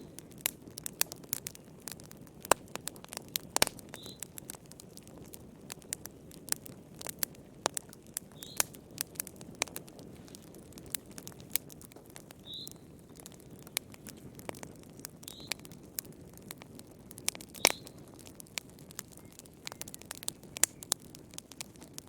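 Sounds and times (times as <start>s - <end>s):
soft rush of flames: 0.0s - 22.0s
wood fire crackling: 0.0s - 22.0s.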